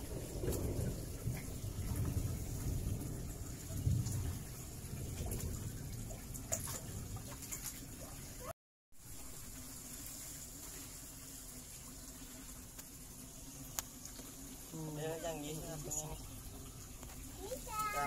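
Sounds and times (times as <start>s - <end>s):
hose pouring water: 0.0s - 18.0s.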